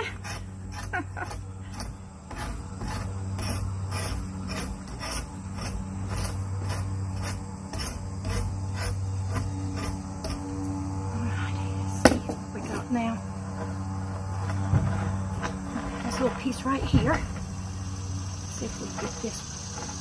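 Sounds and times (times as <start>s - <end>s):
draw knife scraping bark: 0.0s - 10.7s, 12.0s - 17.5s
steady low hum: 0.0s - 20.0s.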